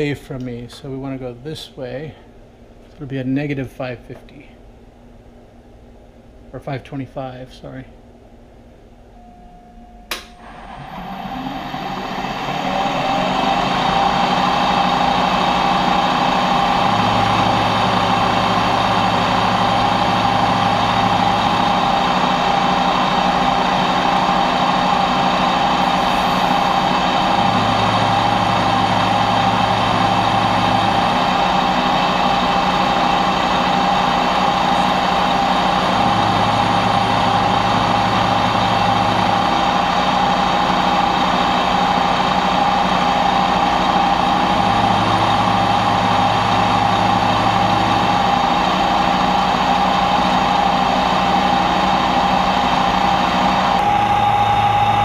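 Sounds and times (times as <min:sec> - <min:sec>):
milling machine cutting metal: 0:10.4 - 0:55.0.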